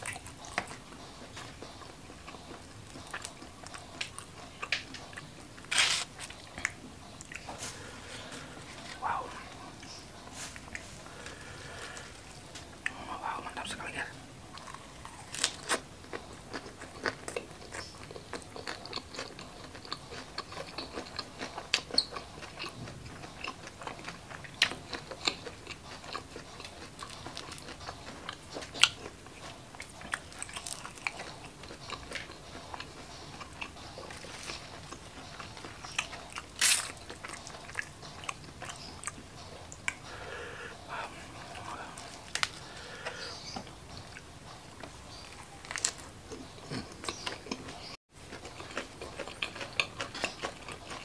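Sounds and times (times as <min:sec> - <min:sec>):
chewing and crunching: 0:00.0 - 0:51.0.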